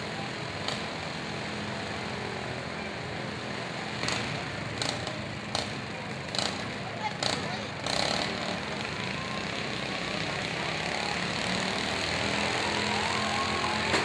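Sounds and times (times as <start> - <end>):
riding lawn mower engines droning: 0.0 - 14.0.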